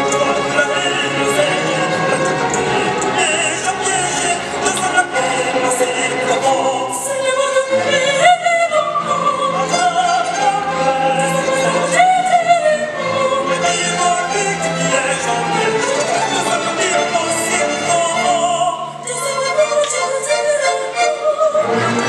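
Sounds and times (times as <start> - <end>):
operatic singing: 0.0 - 22.0
string orchestra: 0.0 - 22.0.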